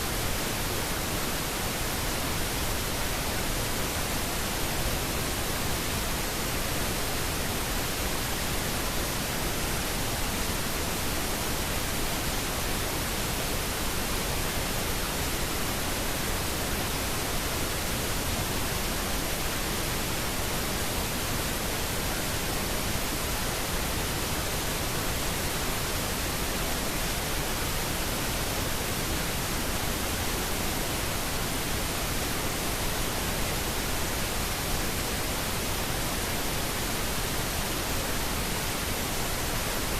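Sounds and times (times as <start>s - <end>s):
white-noise static: 0.0s - 39.9s.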